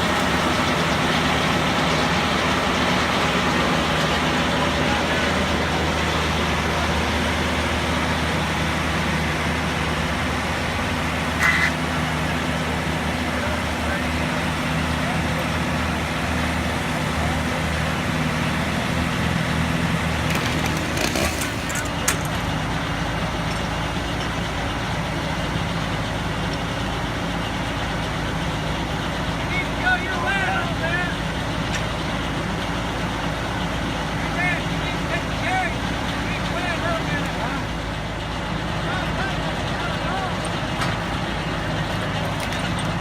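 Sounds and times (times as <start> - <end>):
sawmill machinery running: 0.0 - 43.0.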